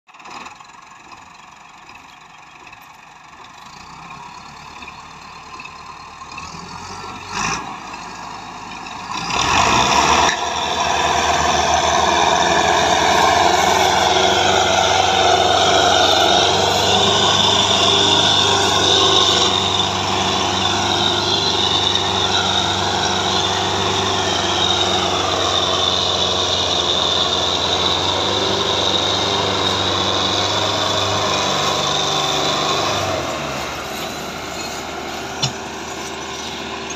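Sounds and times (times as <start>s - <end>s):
diesel tractor engines under load: 0.1s - 36.9s.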